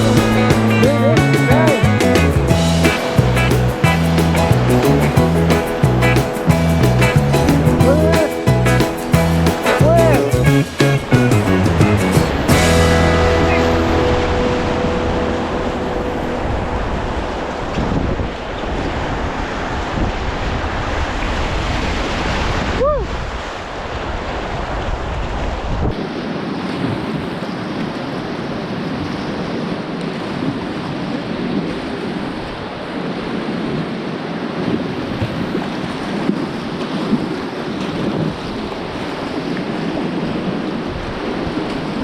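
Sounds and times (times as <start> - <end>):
river water rushing: 0.0 - 42.0
wind buffeting microphone: 0.0 - 42.0.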